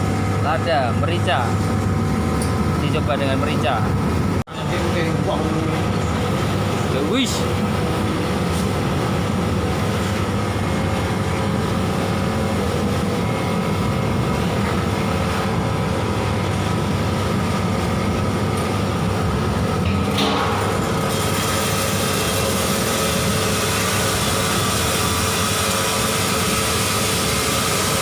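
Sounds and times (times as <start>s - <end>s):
drum dryer mechanical rumble: 0.0s - 28.0s.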